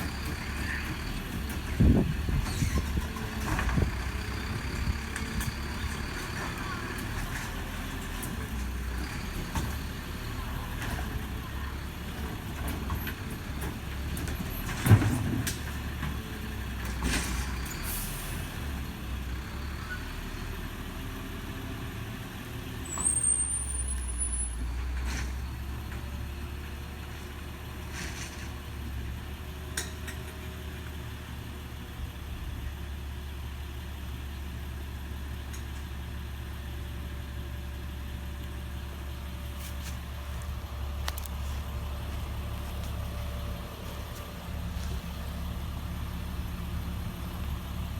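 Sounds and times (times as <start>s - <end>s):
truck engine running: 0.0s - 22.7s, 25.4s - 47.9s.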